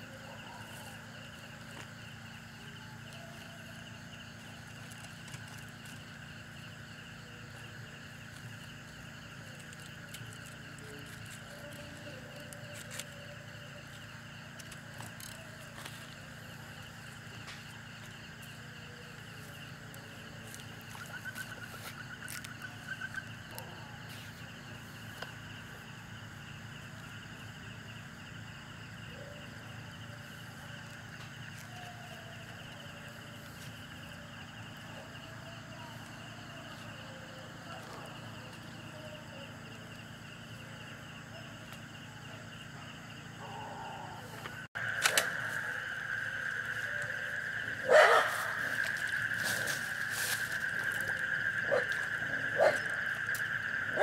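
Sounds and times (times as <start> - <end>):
insects and frogs chorus: 0.0 - 54.0.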